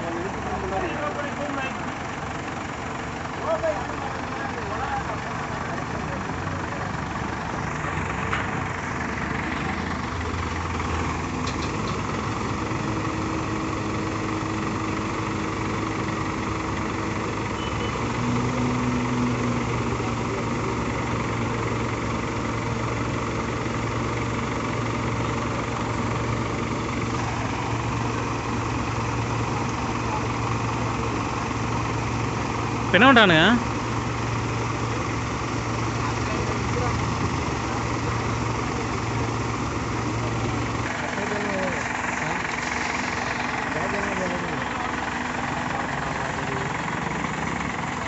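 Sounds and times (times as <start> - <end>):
heavy vehicle engine running: 0.0 - 48.0.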